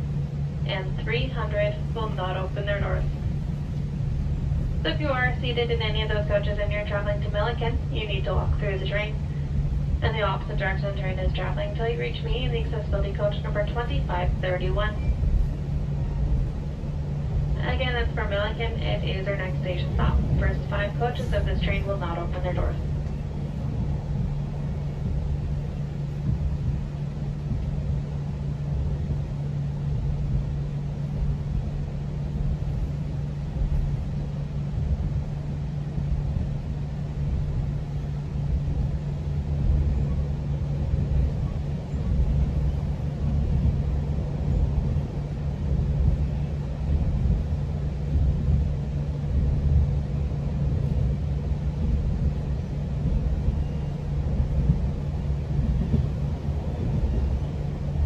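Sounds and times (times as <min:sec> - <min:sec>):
constant low hum: 0:00.0 - 0:58.0
train rumble from inside coach: 0:00.0 - 0:58.0.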